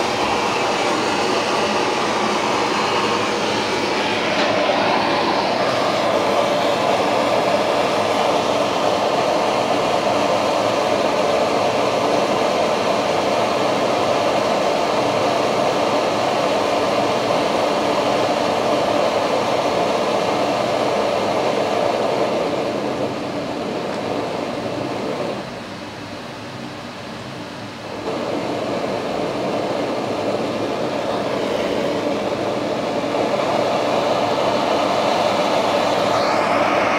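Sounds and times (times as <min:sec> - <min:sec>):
extractor hood fan rushing: 0:00.0 - 0:36.9.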